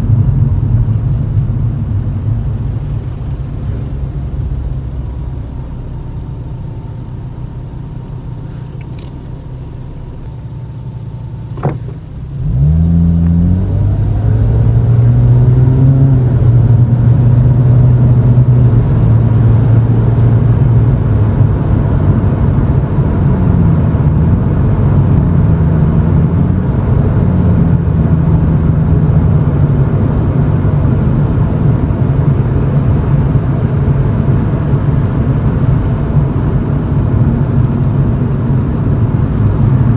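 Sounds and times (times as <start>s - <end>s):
car engine idling: 0.0s - 39.9s
car exhaust drone while driving: 0.0s - 39.9s.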